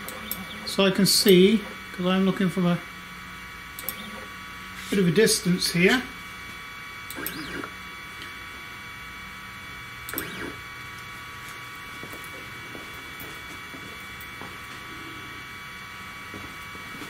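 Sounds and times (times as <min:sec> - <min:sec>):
steady electrical hum: 0:00.0 - 0:17.0
stepper motor whine: 0:00.0 - 0:17.0.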